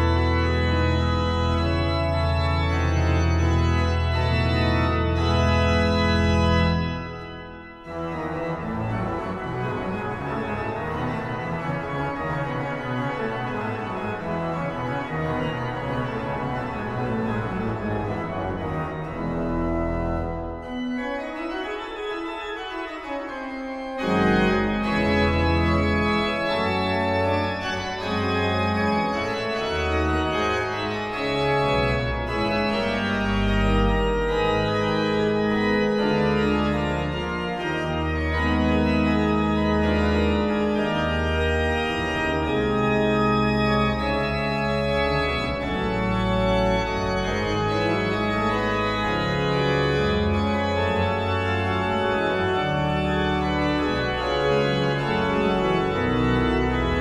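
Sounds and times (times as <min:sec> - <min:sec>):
organ playing held chords: 0:00.0 - 0:57.0.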